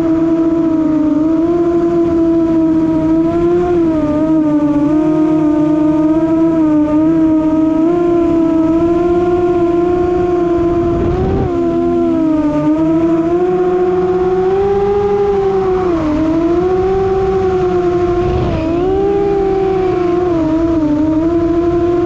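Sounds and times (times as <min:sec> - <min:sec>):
drone propellers buzzing whine: 0:00.0 - 0:22.0
low wind rush: 0:00.0 - 0:22.0.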